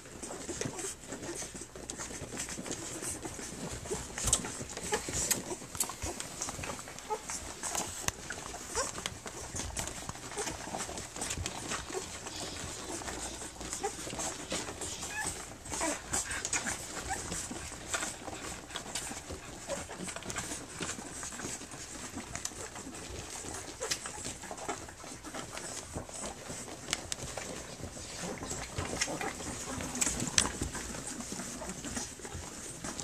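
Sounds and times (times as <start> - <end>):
puppies suckling clicks: 0.0 - 33.0
puppies squeaking: 0.2 - 33.0.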